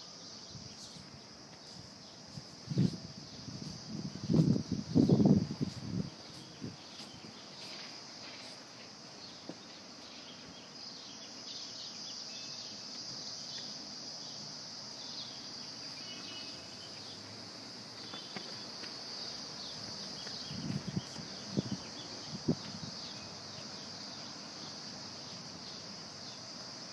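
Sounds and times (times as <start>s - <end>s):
high-pitched hiss: 0.0s - 26.9s.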